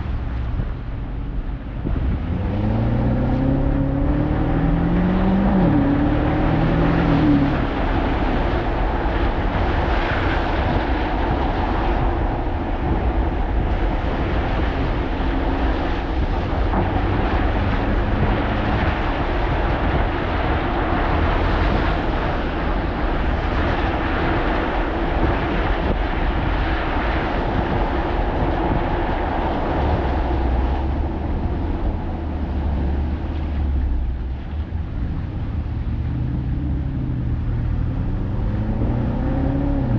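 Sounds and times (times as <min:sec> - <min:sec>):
car engine accelerating: 0:00.0 - 0:39.9
tyre and road noise: 0:00.0 - 0:39.9.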